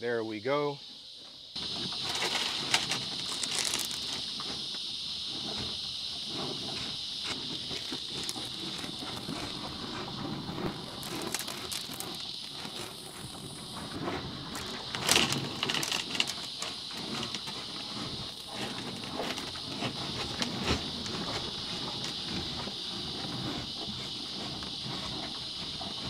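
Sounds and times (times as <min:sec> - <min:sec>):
insects chirring: 0:00.0 - 0:26.0
cattle crunching grain feed: 0:01.6 - 0:26.0.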